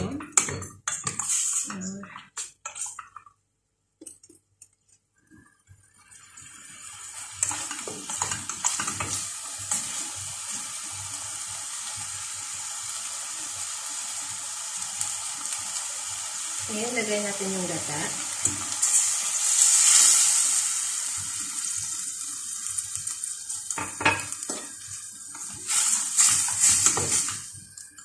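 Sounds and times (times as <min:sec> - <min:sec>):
chicken sizzling in a pot: 0:00.0 - 0:03.2, 0:05.4 - 0:28.0.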